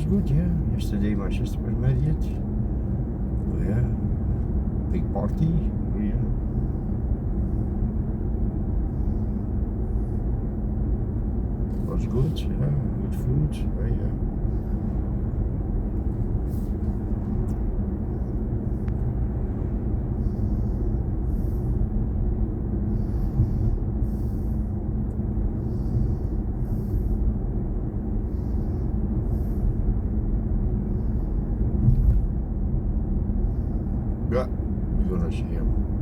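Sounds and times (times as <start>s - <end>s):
road and tyre rumble: 0.0s - 36.0s.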